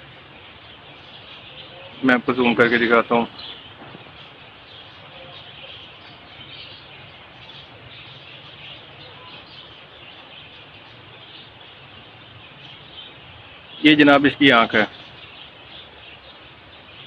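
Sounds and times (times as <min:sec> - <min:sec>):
distant birds chirping: 0:00.0 - 0:17.0
steady background hiss: 0:00.0 - 0:17.0.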